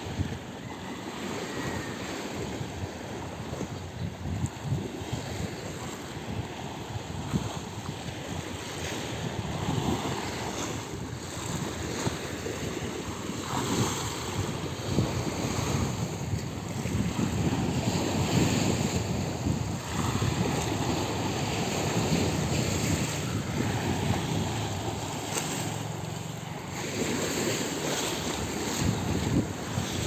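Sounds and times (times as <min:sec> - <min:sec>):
waves washing against seawall: 0:00.0 - 0:30.0
wind buffeting microphone: 0:00.0 - 0:30.0.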